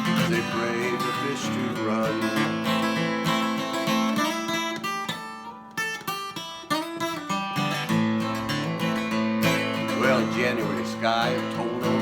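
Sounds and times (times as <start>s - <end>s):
acoustic guitar picking and strumming: 0.0s - 12.0s.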